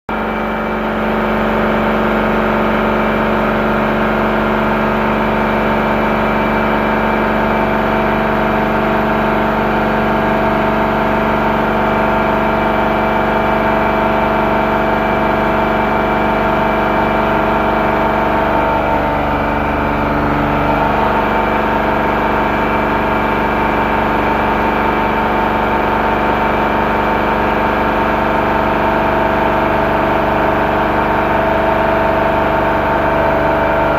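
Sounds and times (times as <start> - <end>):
machinery humming: 0.1 - 33.9.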